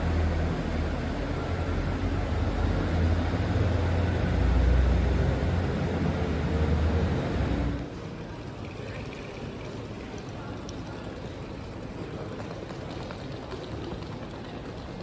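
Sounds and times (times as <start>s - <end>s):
distant voices and hall noise: 0.0s - 15.0s.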